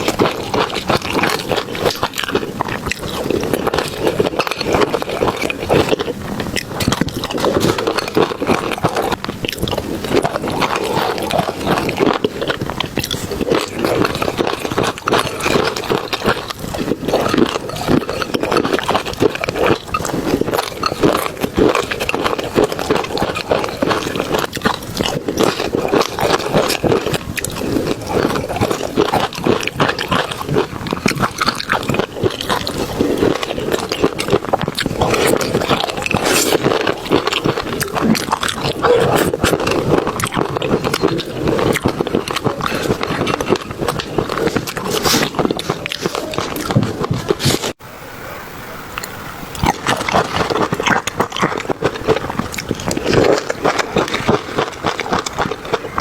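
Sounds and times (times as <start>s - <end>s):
person chewing noisily: 0.0s - 56.0s.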